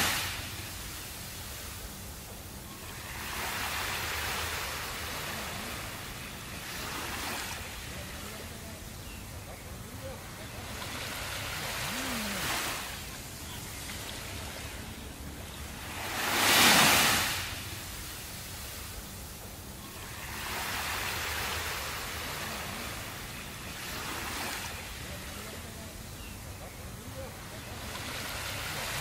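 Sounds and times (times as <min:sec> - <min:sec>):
small waves breaking on beach: 0:00.0 - 0:29.0.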